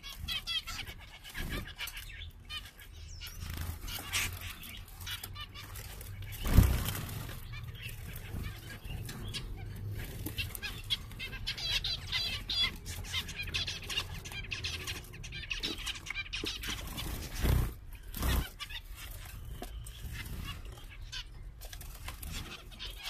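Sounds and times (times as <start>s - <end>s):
finches chirping: 0.0s - 23.0s.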